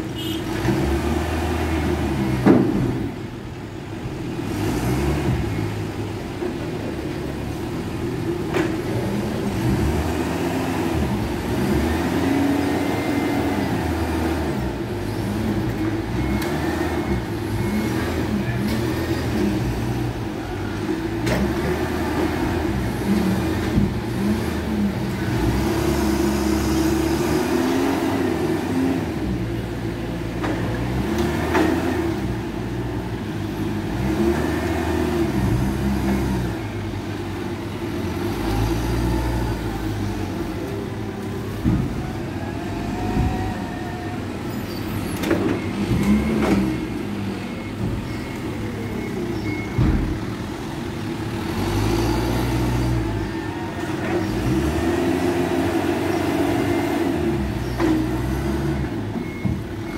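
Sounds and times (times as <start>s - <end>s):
forklift engine revving: 4.2s - 6.3s, 7.2s - 59.9s.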